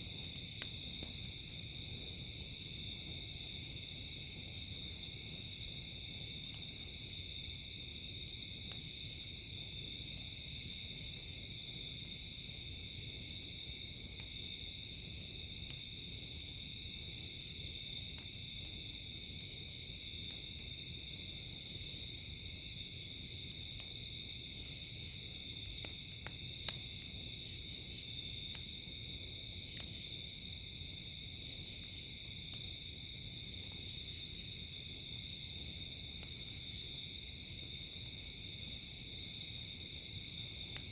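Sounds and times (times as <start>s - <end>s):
campfire crackling pops: 0.0s - 40.9s
crickets and night insects: 0.0s - 40.9s.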